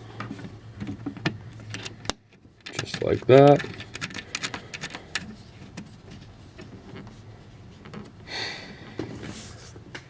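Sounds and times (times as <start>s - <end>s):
cord rustling: 0.3s - 9.9s.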